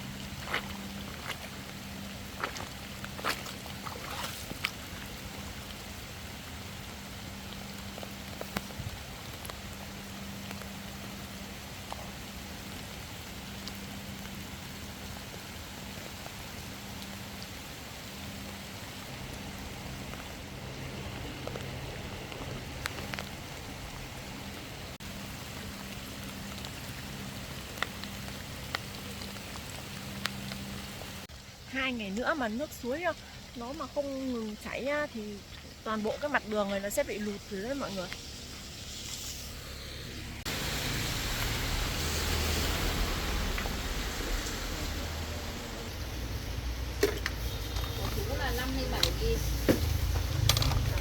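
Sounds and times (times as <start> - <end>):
small drips and ticks: 0.0 - 39.4, 40.5 - 45.0, 45.9 - 51.0
steady rain falling: 0.0 - 51.0.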